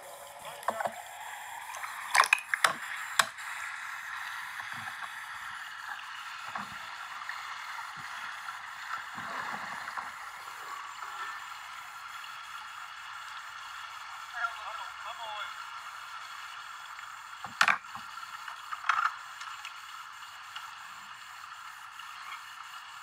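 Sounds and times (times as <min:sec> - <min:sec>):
water splashing: 0:00.0 - 0:18.6.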